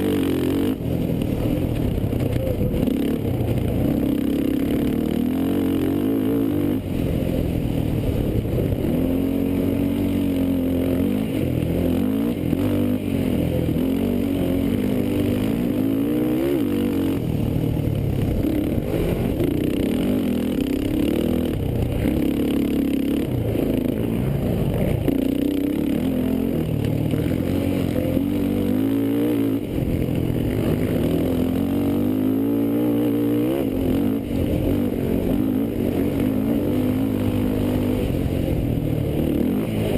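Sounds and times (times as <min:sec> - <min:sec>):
quad engines revving: 0:00.0 - 0:39.9.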